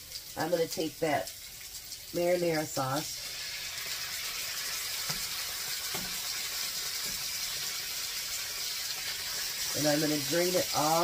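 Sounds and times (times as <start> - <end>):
patties sizzling in oil: 0.0 - 11.0.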